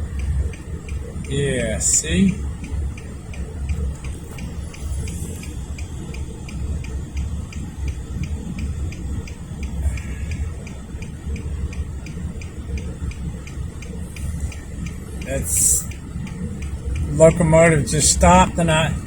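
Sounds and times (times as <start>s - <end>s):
diesel locomotive rumble: 0.0s - 19.0s
fast ticking: 0.0s - 19.0s.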